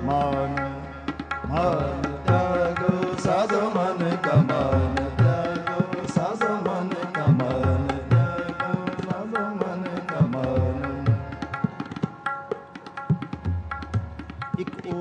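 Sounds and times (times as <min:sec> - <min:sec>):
tabla playing a rhythm: 0:00.0 - 0:15.0.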